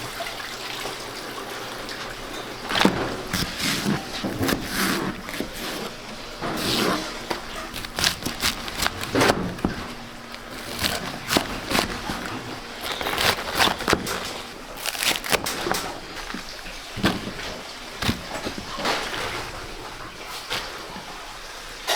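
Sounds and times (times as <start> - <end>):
knocks and scrapes preparing food: 2.6 - 21.3.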